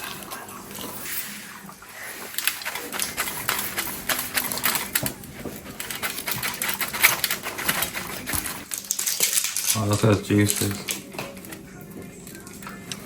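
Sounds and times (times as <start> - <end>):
crackling and clicking food handling: 0.0 - 13.0.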